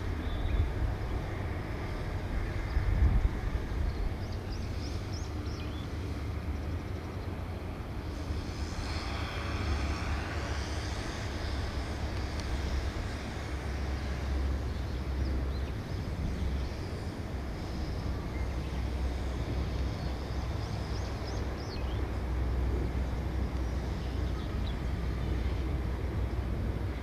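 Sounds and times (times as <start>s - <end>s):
even hiss: 0.0s - 27.0s.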